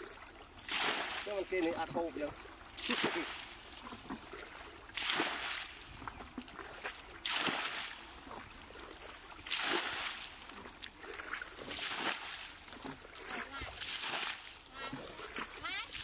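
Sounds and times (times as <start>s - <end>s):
water sloshing and dripping: 0.0s - 16.0s
water splashing from bucket: 0.0s - 16.0s.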